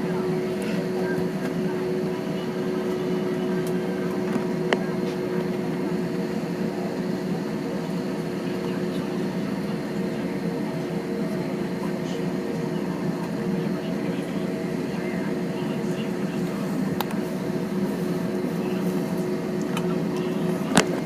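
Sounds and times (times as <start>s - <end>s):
airplane cabin drone: 0.0s - 21.0s.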